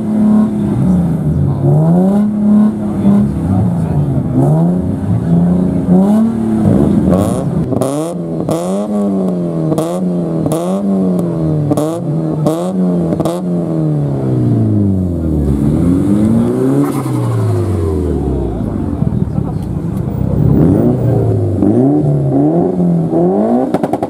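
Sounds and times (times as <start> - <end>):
sports car engine revving: 0.0 - 24.0.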